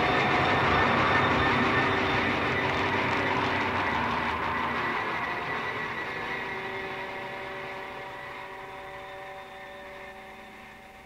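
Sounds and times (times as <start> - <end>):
sustained drone of held tones: 0.0 - 11.0.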